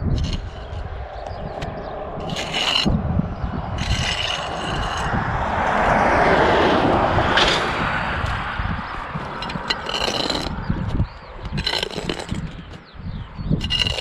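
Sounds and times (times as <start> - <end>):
scraping and rubbing: 0.0 - 14.0
steady low rumble: 0.0 - 14.0.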